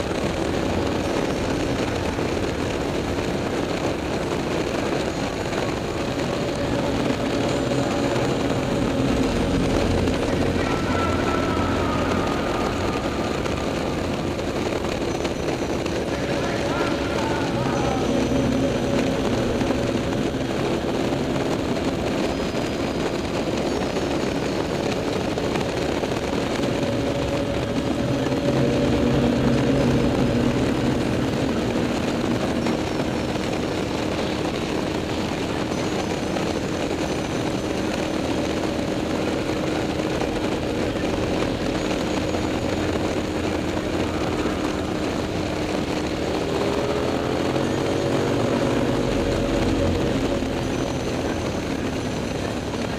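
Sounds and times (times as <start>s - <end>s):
motorcycle engine running: 0.0s - 52.9s
wind noise rushing: 0.0s - 52.9s.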